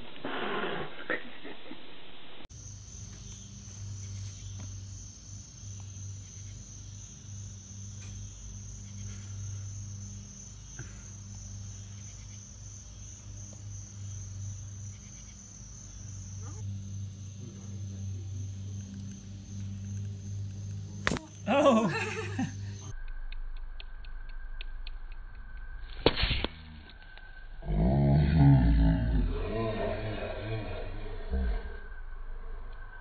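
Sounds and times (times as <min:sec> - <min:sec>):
low steady hum: 0:00.0 - 0:33.0
crickets trilling: 0:02.5 - 0:33.0.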